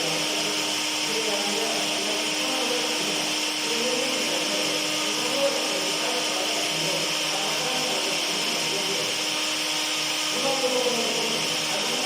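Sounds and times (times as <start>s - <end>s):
blender motor whirring: 0.0s - 12.0s.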